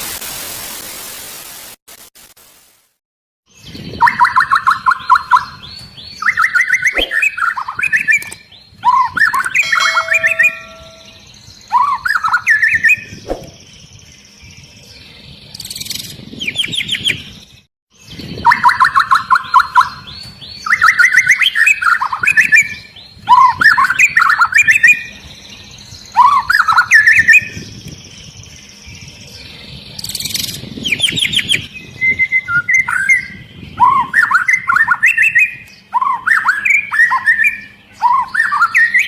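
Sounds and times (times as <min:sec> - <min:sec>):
bird singing whistled notes: 0:03.5 - 0:39.0.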